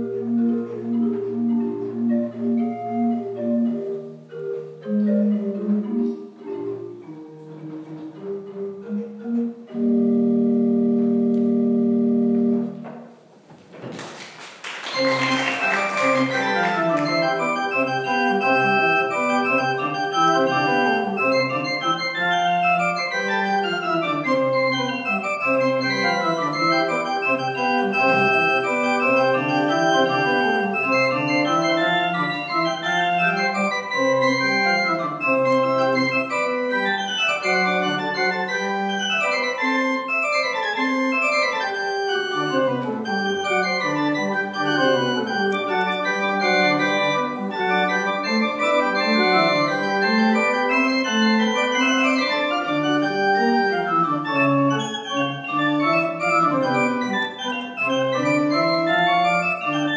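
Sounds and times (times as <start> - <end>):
brisk organ piece: 8.5 - 12.8, 14.9 - 59.9
pipe organ chord: 8.5 - 12.8, 14.9 - 59.9.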